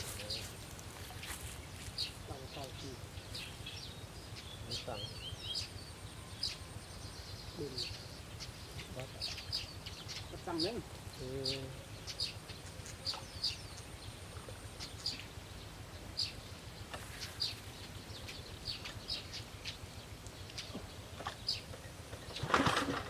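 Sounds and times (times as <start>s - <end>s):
low steady hum: 0.0s - 23.0s
small birds chirping: 0.0s - 23.0s.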